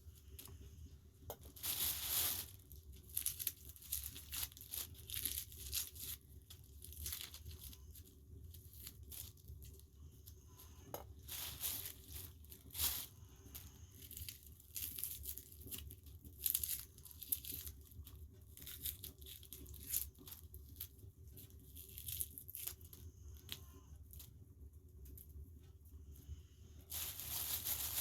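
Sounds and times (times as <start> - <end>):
plastic or paper rustling: 0.0 - 24.3, 26.8 - 28.0.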